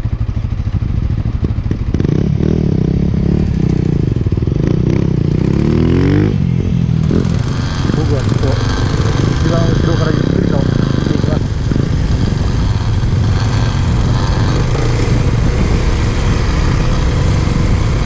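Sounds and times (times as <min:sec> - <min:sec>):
dirt bike engine revving: 0:01.7 - 0:18.0.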